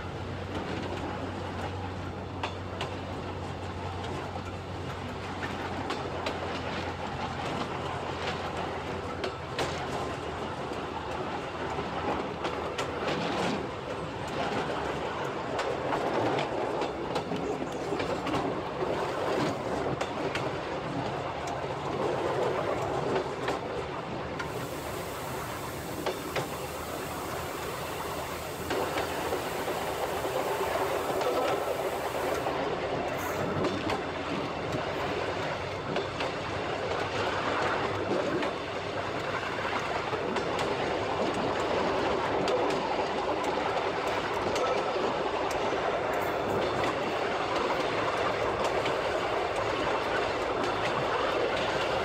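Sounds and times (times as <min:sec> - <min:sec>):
rack railway train rumbling: 0:00.0 - 0:52.0
wheels clicking on track: 0:00.0 - 0:52.0.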